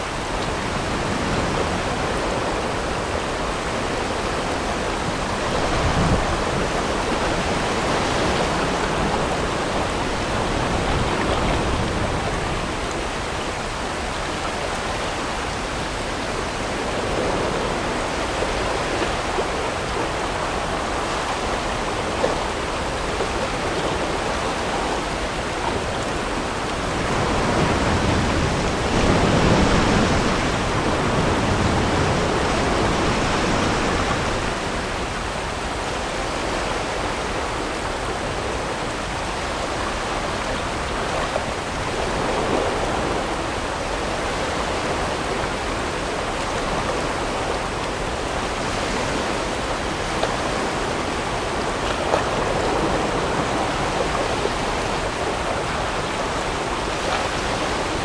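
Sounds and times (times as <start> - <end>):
whitewater rapids rushing: 0.0 - 58.0.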